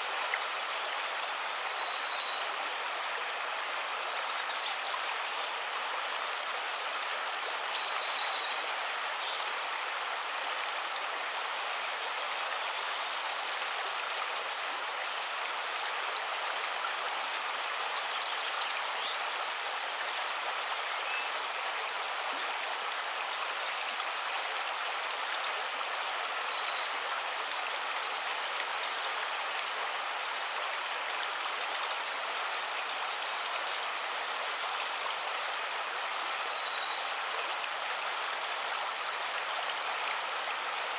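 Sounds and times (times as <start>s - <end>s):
river water flowing: 0.0s - 40.9s
songbird singing: 0.0s - 40.9s.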